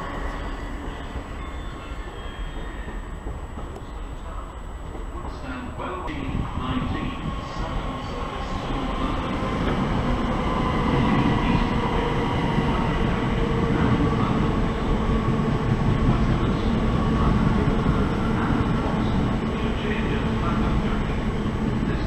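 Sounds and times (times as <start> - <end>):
train wheels rushing on rails: 0.0 - 22.0.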